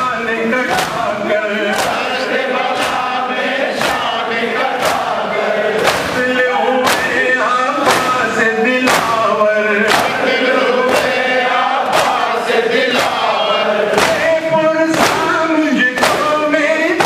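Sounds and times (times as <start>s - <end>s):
man singing into a microphone: 0.0s - 4.4s, 5.0s - 17.0s
crowd of men chanting: 0.0s - 17.0s.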